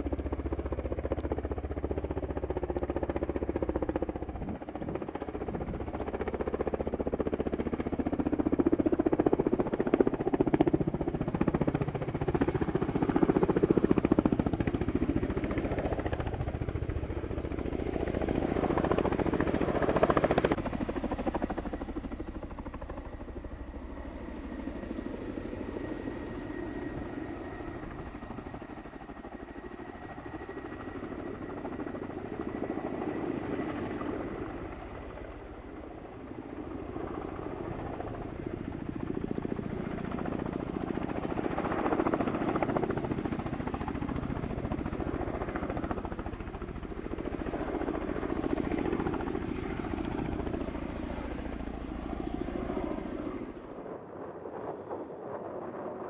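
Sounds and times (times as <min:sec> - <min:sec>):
helicopter rotor thrum: 0:00.0 - 0:53.7.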